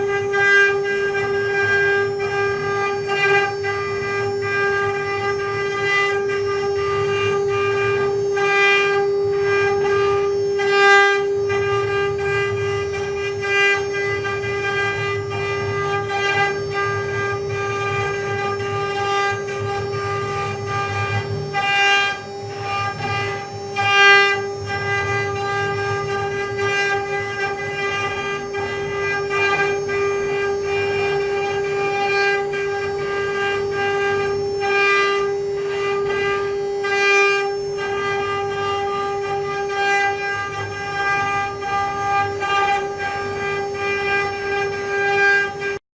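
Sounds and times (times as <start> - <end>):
cnc machine spindle whine: 0.0 - 45.8.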